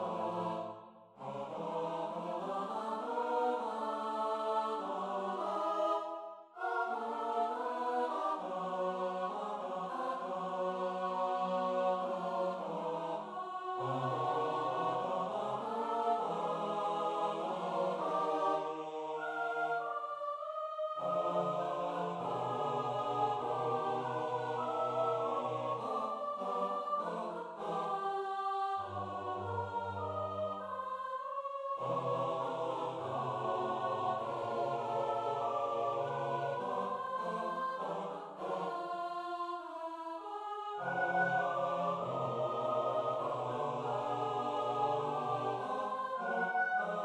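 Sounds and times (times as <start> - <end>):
a cappella choir singing: 0.0 - 47.0.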